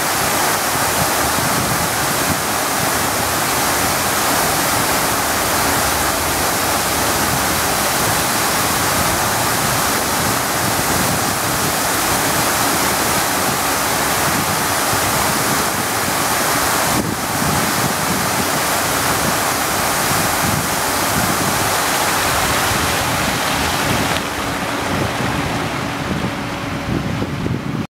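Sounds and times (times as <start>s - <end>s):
fountain water rushing and splashing: 0.0s - 27.6s.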